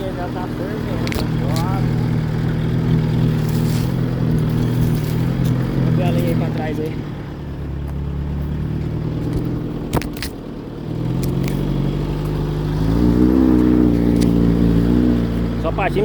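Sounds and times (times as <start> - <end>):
pickup engine labouring: 0.0 - 16.0.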